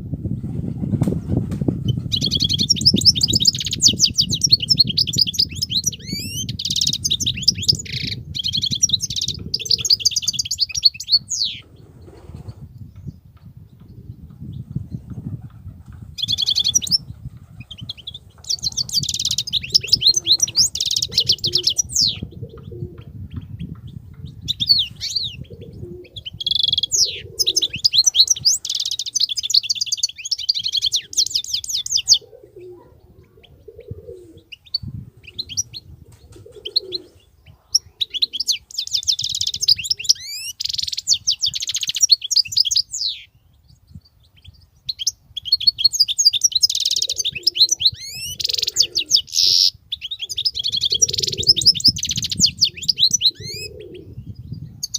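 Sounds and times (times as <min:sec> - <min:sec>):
goldfinch twittering song: 0:01.9 - 0:11.6, 0:16.2 - 0:22.6, 0:23.3 - 0:32.2, 0:34.5 - 0:35.8, 0:36.6 - 0:54.9.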